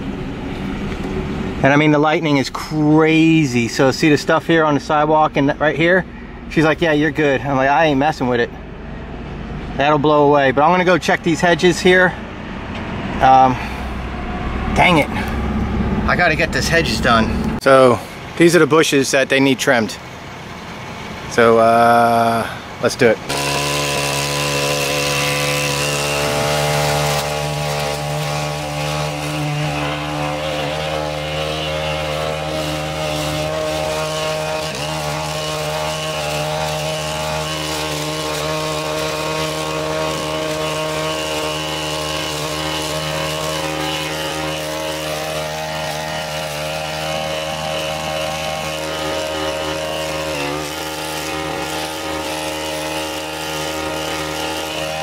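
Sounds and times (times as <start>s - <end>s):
hedge trimmer engine running: 0.0s - 55.0s.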